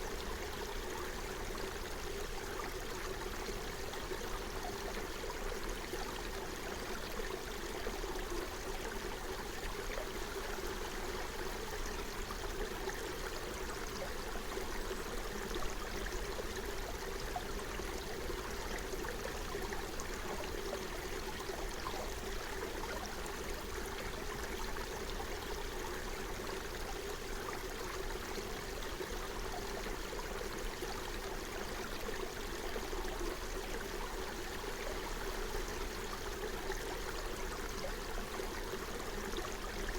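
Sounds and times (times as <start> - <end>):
stream burbling over stones: 0.0 - 39.9.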